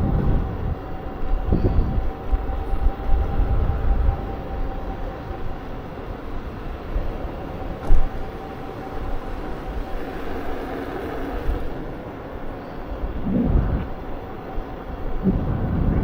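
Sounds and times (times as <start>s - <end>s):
faint steady whine: 0.0s - 16.0s
wind and rolling noise: 0.0s - 16.0s.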